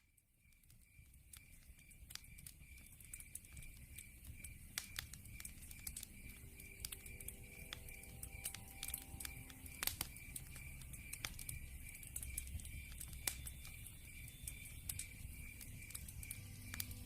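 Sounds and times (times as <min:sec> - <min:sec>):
insects chirping: 0:00.0 - 0:17.0
log fire crackling: 0:00.1 - 0:17.0.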